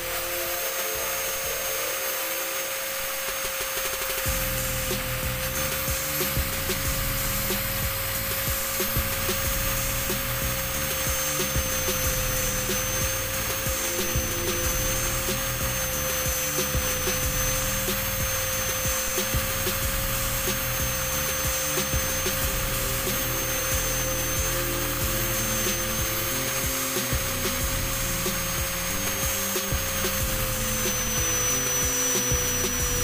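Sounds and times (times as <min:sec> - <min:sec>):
steady whine: 0:00.0 - 0:33.0.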